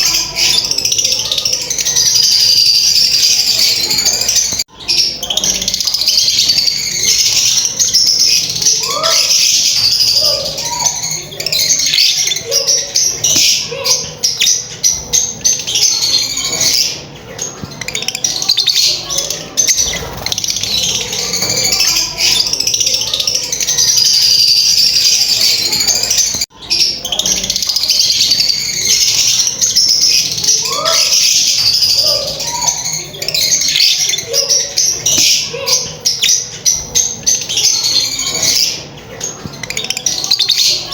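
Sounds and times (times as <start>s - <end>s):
birds chattering: 0.0s - 40.9s.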